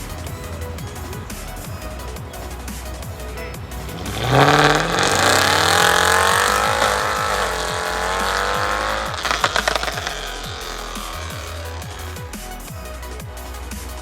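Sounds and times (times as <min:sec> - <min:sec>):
car engine accelerating hard: 0:00.0 - 0:14.0
exhaust crackles and pops: 0:00.0 - 0:14.0.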